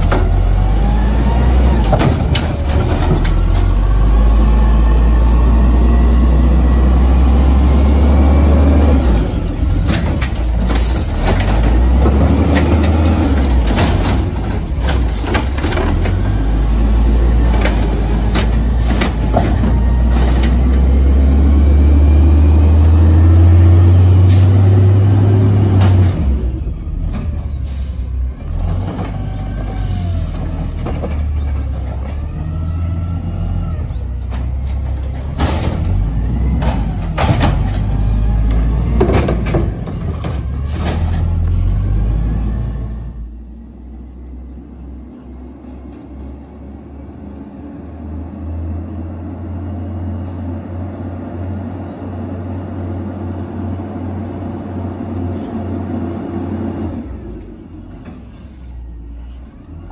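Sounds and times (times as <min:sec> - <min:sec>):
brake squeals: 0:00.0 - 0:44.4, 0:54.0 - 0:59.9
garbage truck diesel engine: 0:00.0 - 0:59.9.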